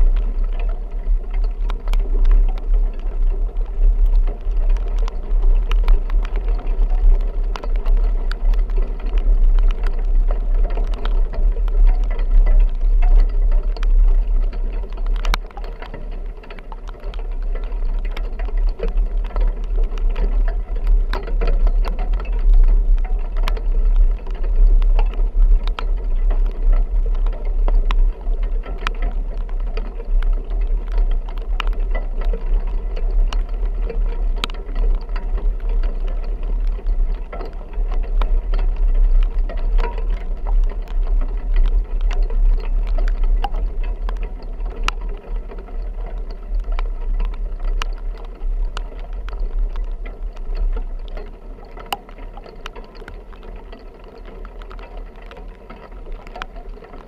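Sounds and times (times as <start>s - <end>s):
rain hitting vehicle: 0.0s - 57.0s
rattles of vehicle bouncing: 0.0s - 57.0s.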